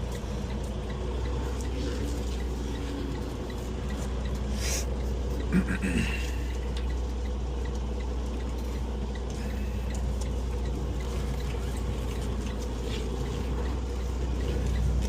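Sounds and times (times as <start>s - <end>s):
diesel engine low rumble: 0.0s - 15.0s
faint ticking: 0.0s - 15.0s.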